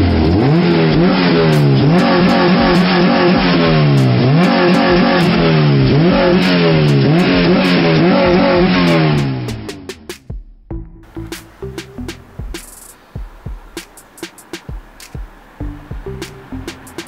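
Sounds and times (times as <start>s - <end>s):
car engine revving: 0.0s - 10.3s, 11.0s - 17.0s.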